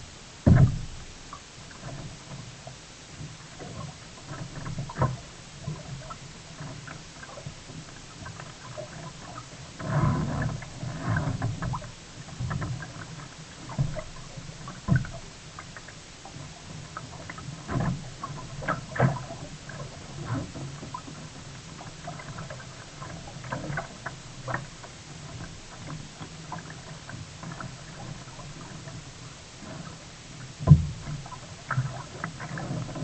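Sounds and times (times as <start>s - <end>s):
paddle splashes and knocks: 0.4s - 33.0s.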